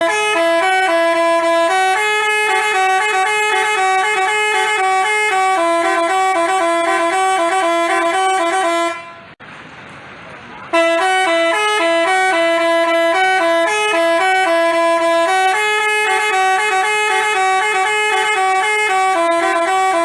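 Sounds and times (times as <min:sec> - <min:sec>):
musical bus horn melody: 0:00.0 - 0:09.4, 0:10.7 - 0:20.0.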